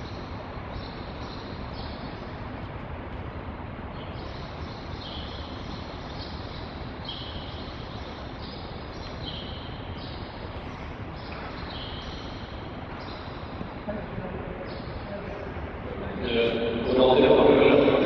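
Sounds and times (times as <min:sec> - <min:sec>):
tape hiss and hum: 0:00.0 - 0:18.0.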